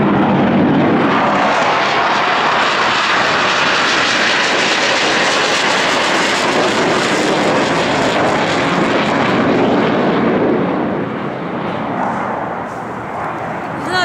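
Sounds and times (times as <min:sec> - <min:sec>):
fighter jet engines roaring: 0:00.0 - 0:14.0.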